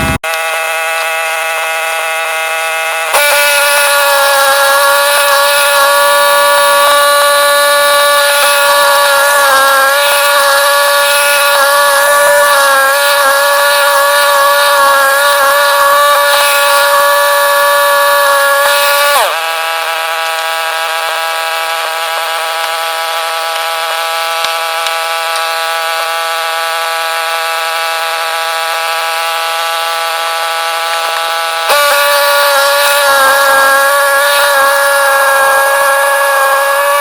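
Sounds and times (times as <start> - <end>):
snowblower engine running: 0.0 - 37.0.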